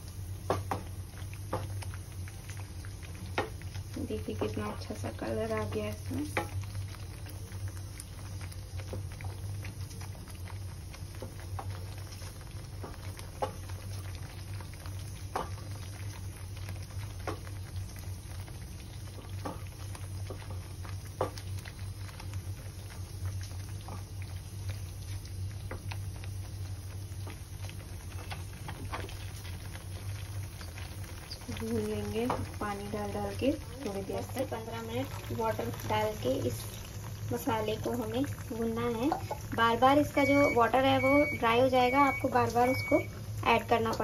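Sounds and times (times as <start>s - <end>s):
low steady hum: 0.0s - 44.0s
masala bubbling and spluttering: 0.0s - 44.0s.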